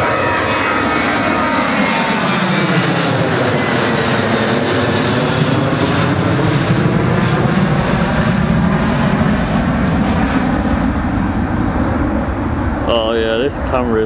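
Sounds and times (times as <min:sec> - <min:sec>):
airliner engines roaring: 0:00.0 - 0:14.0.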